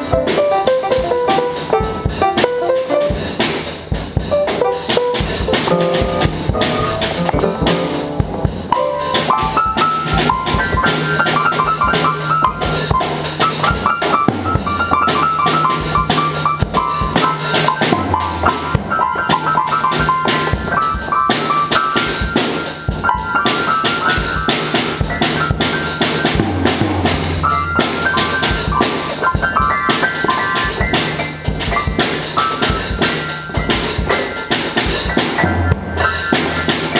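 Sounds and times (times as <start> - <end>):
drum kit steady beat: 0.0 - 36.9
high keyboard notes: 0.0 - 36.9.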